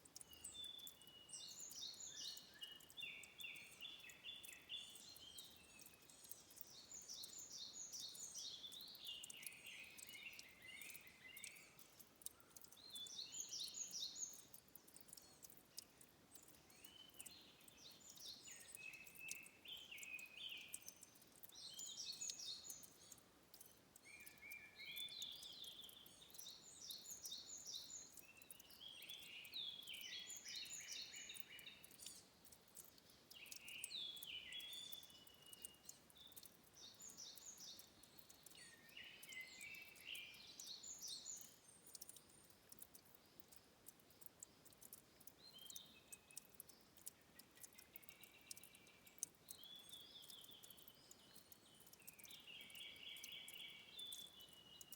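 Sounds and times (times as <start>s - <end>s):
faint tiny clicks: 0.0s - 54.9s
songbird singing: 0.0s - 54.9s.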